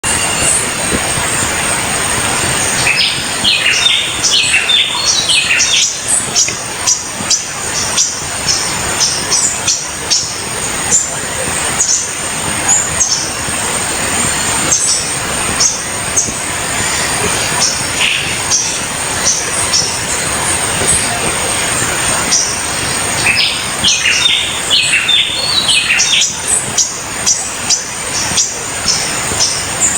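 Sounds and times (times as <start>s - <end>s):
birds chirping: 0.0s - 29.9s
water rushing: 0.0s - 29.9s.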